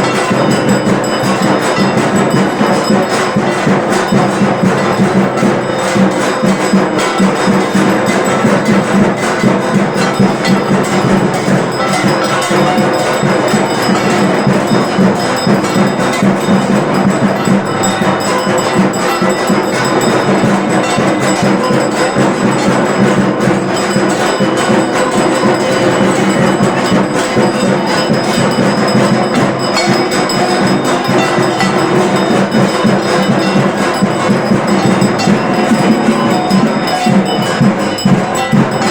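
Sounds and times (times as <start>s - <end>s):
bells and gongs ringing: 0.0s - 38.9s
rapid drumming: 0.0s - 38.9s.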